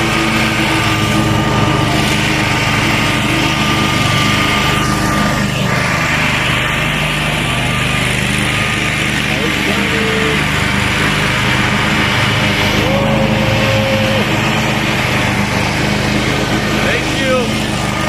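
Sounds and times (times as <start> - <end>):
riding lawn mower engine: 0.0 - 18.0.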